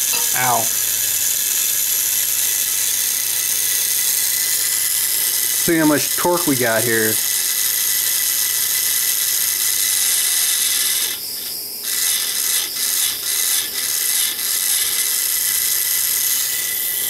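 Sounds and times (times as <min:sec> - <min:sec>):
small motor whirring: 0:00.0 - 0:17.0.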